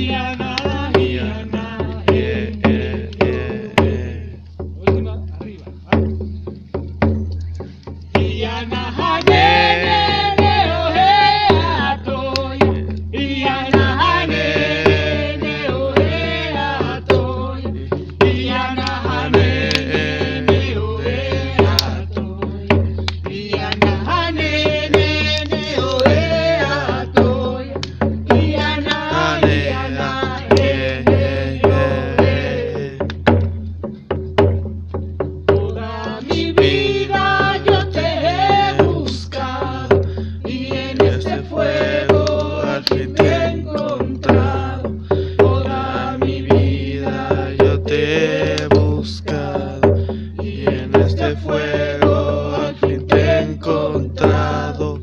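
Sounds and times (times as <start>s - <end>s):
chant with long bending notes: 0.0s - 4.7s, 7.6s - 34.2s, 35.2s - 55.0s
drum beaten at steady pulse: 0.0s - 55.0s.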